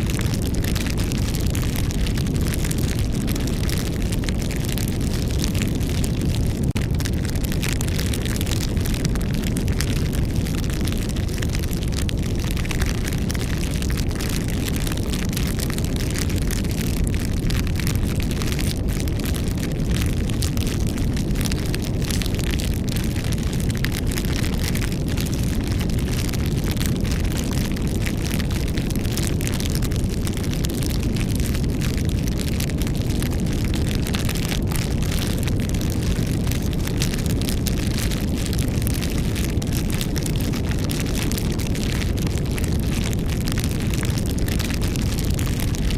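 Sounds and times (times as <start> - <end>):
campfire crackling: 0.0 - 45.9
low fire rumble: 0.0 - 45.9.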